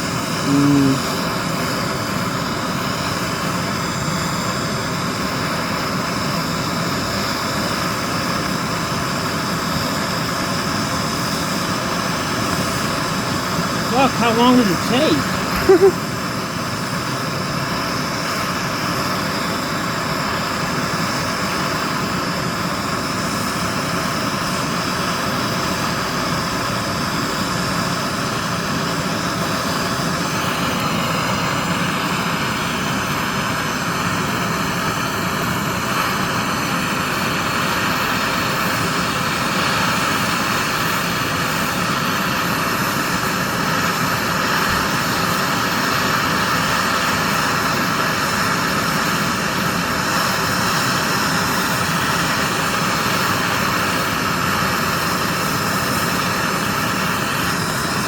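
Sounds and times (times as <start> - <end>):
gas torch roaring: 0.0 - 58.0.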